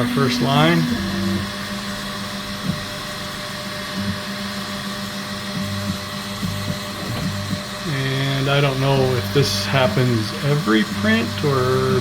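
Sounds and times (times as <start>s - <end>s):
printer motors humming: 0.0s - 12.0s
steady whir: 0.0s - 12.0s.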